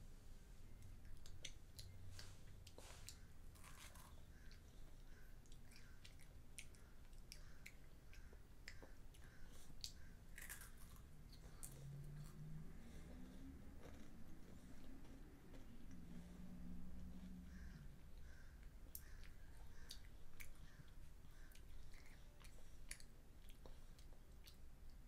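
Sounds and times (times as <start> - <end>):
child chewing crunchy treats: 0.7 - 25.0.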